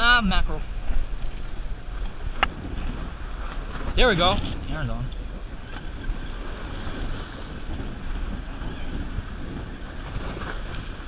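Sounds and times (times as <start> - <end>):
sea water washing against hull: 0.0 - 11.0
wind buffeting microphone: 0.0 - 11.0.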